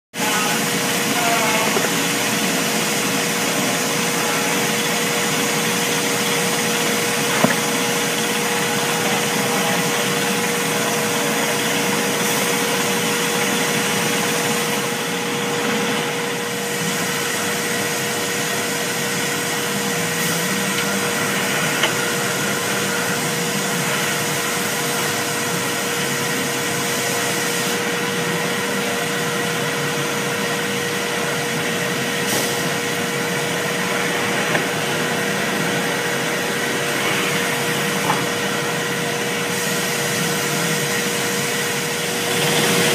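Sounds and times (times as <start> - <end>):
steady machine hum: 0.2 - 42.9.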